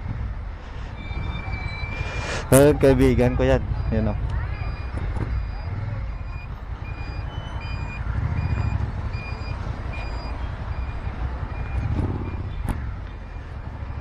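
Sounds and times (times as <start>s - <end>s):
short electronic beeps: 0.8s - 12.6s.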